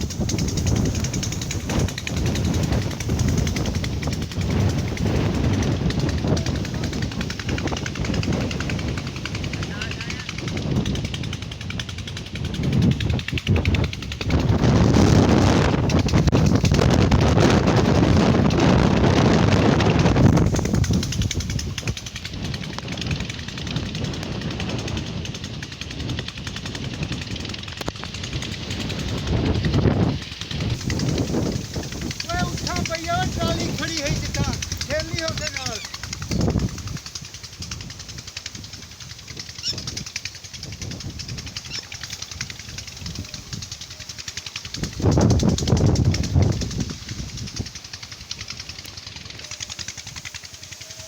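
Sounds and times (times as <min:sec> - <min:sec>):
fast rattle of clicks: 0:00.0 - 0:51.0
fast steady ticking: 0:00.0 - 0:51.0
strong wind buffeting: 0:00.0 - 0:51.0.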